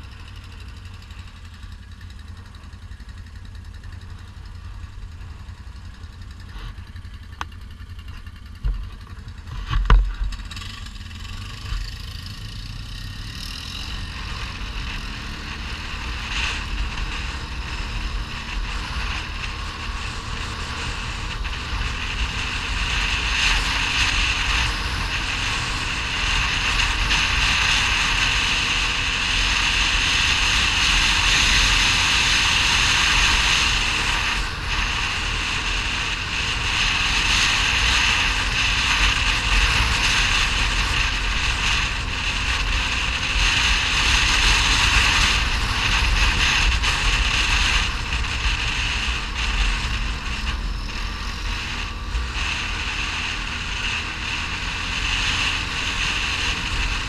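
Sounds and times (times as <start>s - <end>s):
atv engine running: 0.0s - 57.0s
wind noise on microphone: 8.6s - 57.0s.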